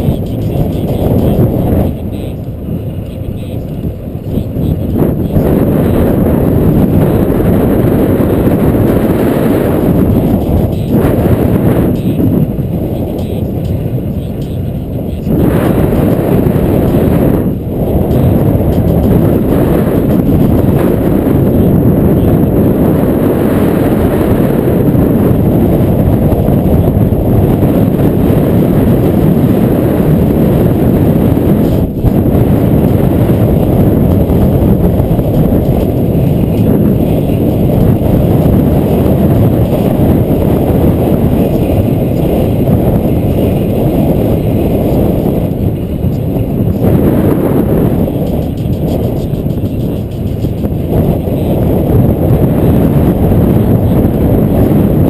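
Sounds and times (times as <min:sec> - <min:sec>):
rolling road noise: 0:00.0 - 0:55.0
wind buffeting microphone: 0:00.0 - 0:55.0.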